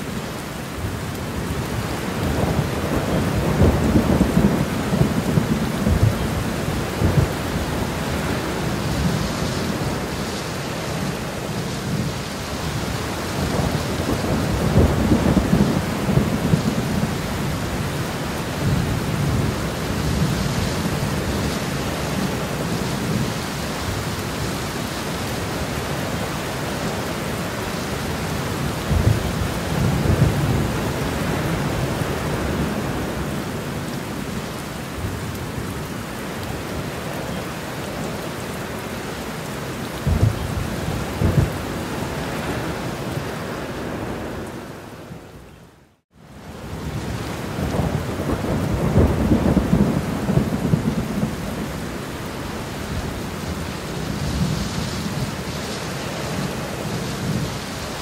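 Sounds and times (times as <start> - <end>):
steady rain: 0.0 - 58.0
thunder rumbling: 0.8 - 11.2, 11.8 - 24.2, 25.3 - 33.6, 39.9 - 44.7, 46.6 - 58.0.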